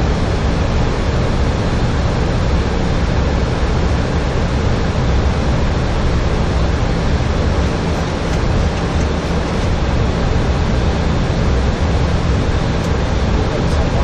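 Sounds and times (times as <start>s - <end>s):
rush of airflow in cockpit: 0.1s - 14.0s.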